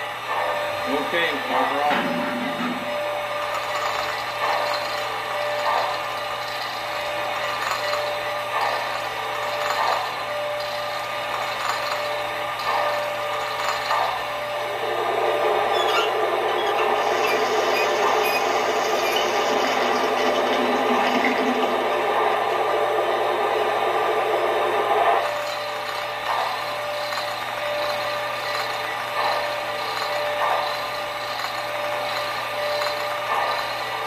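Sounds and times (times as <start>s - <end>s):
small motor and gears grinding: 0.0s - 34.0s.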